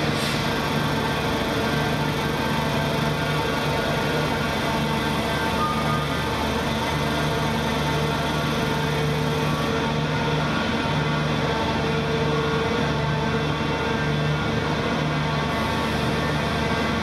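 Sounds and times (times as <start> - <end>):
walking machine mechanical drone: 0.0 - 17.0.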